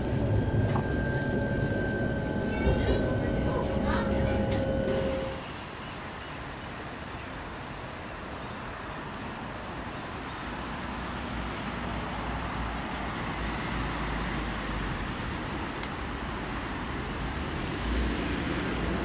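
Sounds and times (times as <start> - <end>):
distant road traffic: 0.0 - 19.0
wind: 0.0 - 19.0.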